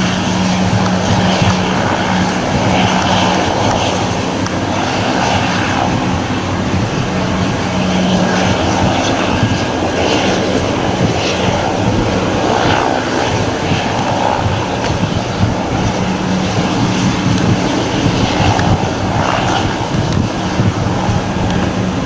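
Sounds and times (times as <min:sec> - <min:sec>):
airliner engines running: 0:00.0 - 0:22.0.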